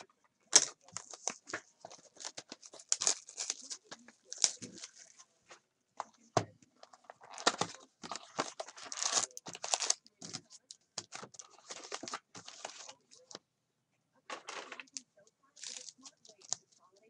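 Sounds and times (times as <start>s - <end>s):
cards and wrappers rustling: 0.0s - 13.4s, 14.3s - 15.0s, 15.6s - 17.0s.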